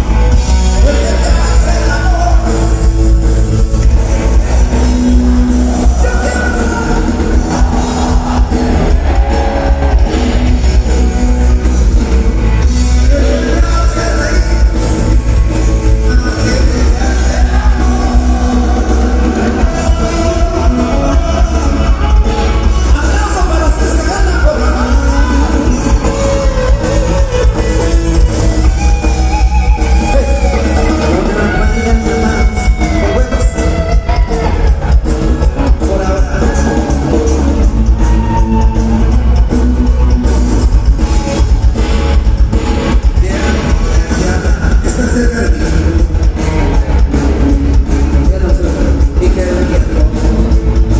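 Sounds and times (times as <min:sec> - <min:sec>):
live rock band: 0:00.0 - 0:50.9.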